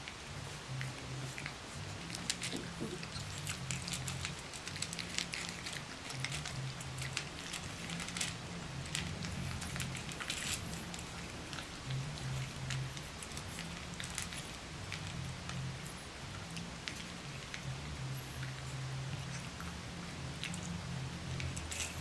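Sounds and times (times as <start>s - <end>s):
puppies crunching kibble: 0.0s - 22.0s.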